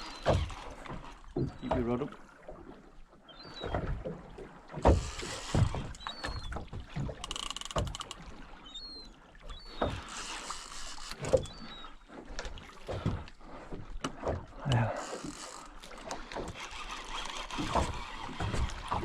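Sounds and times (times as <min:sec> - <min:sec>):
boat knocking and creaking: 0:00.0 - 0:19.0
water slapping against boat hull: 0:00.0 - 0:19.0.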